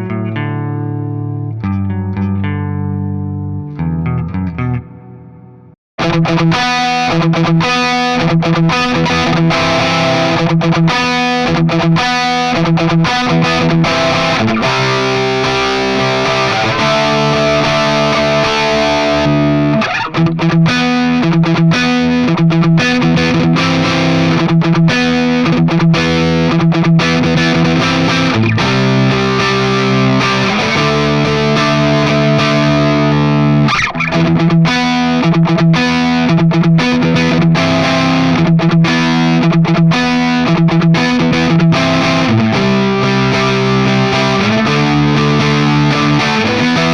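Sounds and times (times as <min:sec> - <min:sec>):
distorted electric guitar chords: 0:00.0 - 0:46.9.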